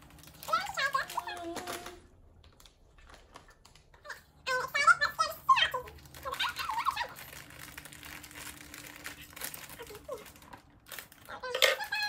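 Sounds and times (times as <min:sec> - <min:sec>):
plastic chip bag crinkling: 0:00.0 - 0:04.4, 0:05.4 - 0:12.0.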